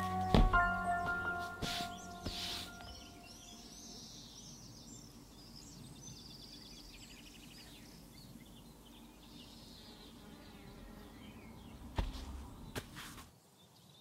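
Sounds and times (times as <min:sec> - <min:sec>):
faint birdsong: 0:00.0 - 0:14.0
low steady outdoor hum: 0:00.0 - 0:14.0.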